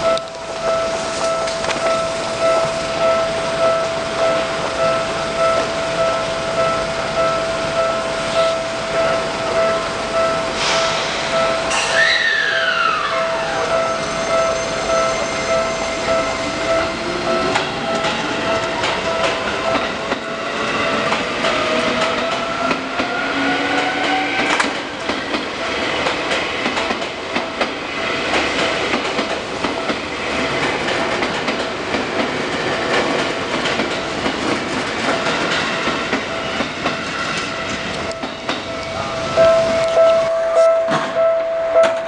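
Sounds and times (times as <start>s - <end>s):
crossing warning bell: 0.0s - 42.0s.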